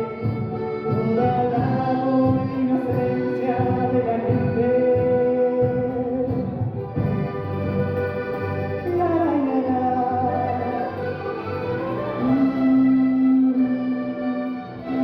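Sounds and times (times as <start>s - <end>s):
orchestra of andean instruments: 0.0s - 15.0s.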